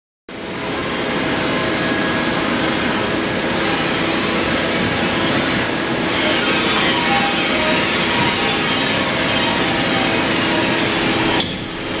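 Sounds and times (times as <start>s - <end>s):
machinery hum and hiss: 0.3s - 12.0s
faint steady tones: 0.4s - 12.0s.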